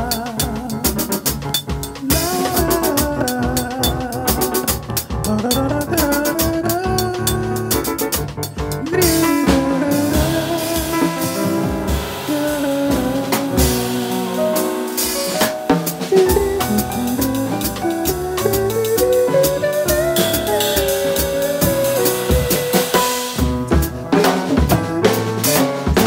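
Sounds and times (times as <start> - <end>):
backing track melody: 0.0 - 26.0
drum kit playing: 0.0 - 26.0.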